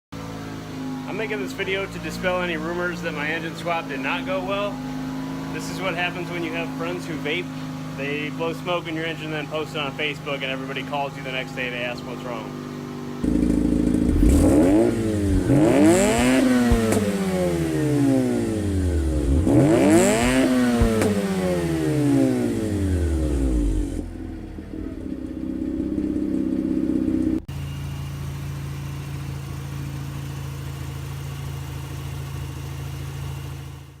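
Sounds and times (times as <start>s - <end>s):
rotary engine revving and idling: 0.2s - 34.0s.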